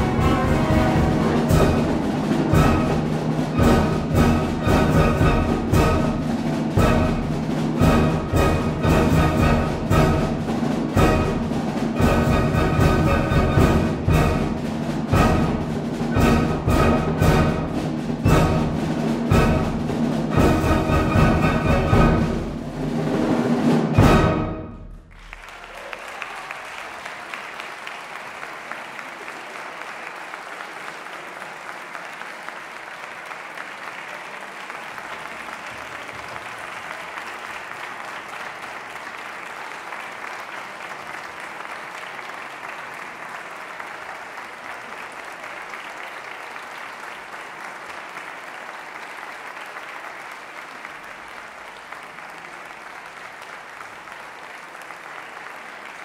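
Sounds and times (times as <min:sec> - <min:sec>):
audience applauding: 0:00.0 - 0:22.5, 0:25.1 - 0:56.0.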